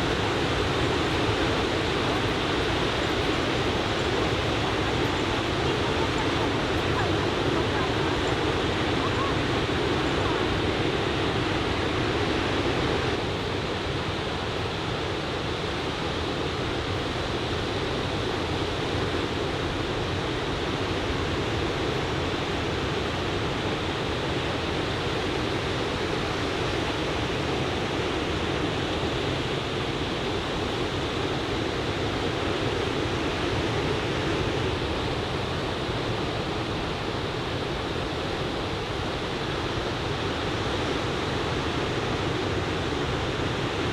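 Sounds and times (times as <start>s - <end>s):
ocean surf on beach: 0.0s - 43.9s.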